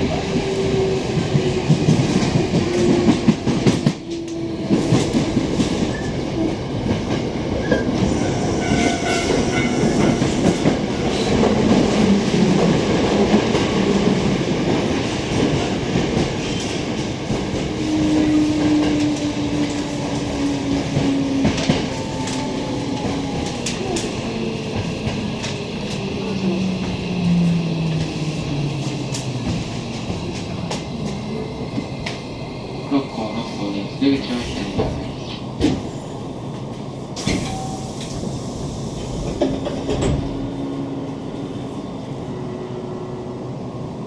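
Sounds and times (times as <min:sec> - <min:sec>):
train rolling noise: 0:00.0 - 0:44.0.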